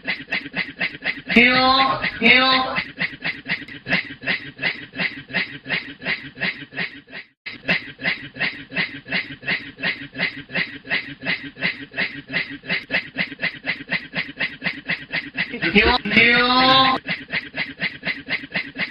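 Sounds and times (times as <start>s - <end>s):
man's breathy rhythmic laughter: 0.0s - 18.9s.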